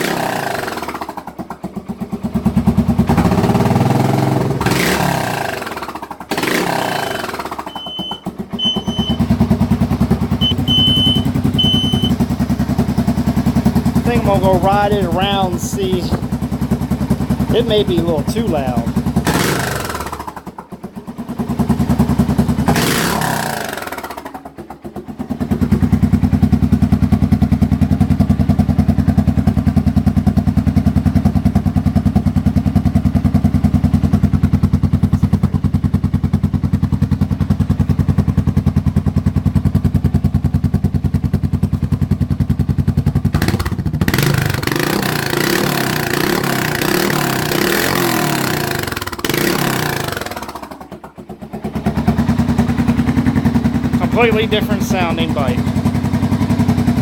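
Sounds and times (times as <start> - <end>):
loud motorcycle engine: 0.0 - 57.0.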